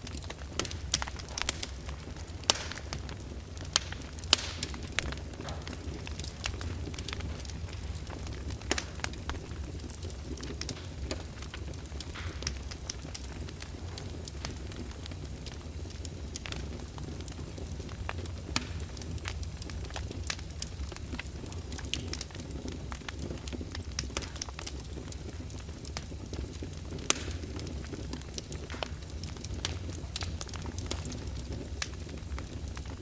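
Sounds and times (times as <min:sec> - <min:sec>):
fire crackling in a fireplace: 0:00.0 - 0:33.0
sharp pops of fire: 0:00.0 - 0:33.0.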